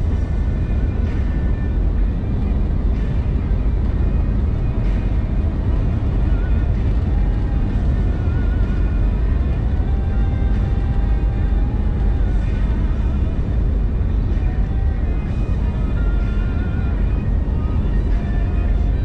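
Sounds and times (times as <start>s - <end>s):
faint music with wavering notes: 0.0s - 19.0s
tyre and wind road noise: 0.0s - 19.0s.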